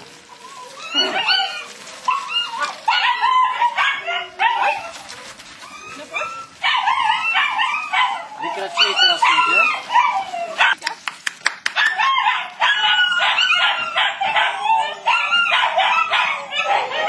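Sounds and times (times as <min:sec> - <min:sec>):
puppy yapping: 0:00.3 - 0:10.9, 0:11.8 - 0:17.0.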